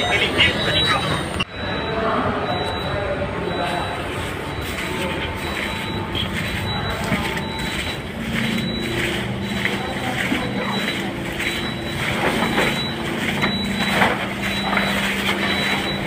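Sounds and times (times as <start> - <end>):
machine running with low hum: 0.0 - 16.0.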